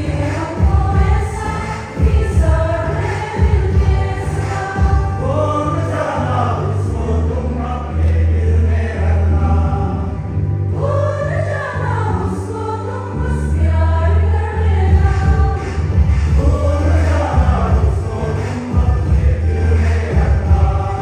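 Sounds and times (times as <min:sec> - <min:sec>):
congregation singing a hymn: 0:00.0 - 0:21.0
deep bass accompaniment: 0:00.0 - 0:21.0.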